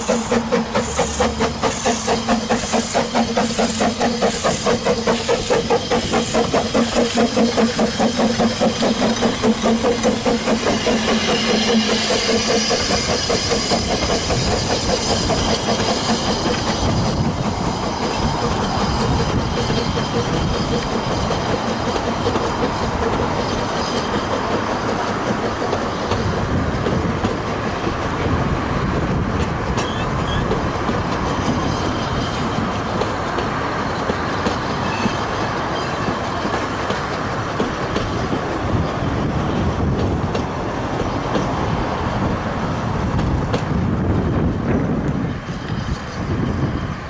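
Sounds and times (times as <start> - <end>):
steam locomotive working: 0.0 - 47.0
train wheels clickety-clack: 0.0 - 47.0.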